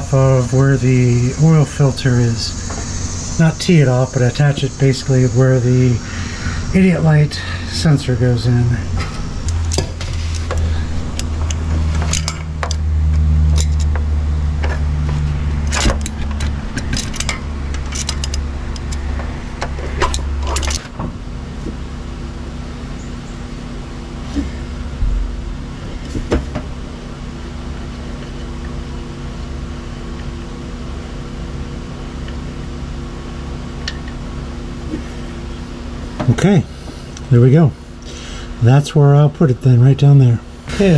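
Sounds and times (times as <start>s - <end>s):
low steady rumble: 0.0s - 40.9s.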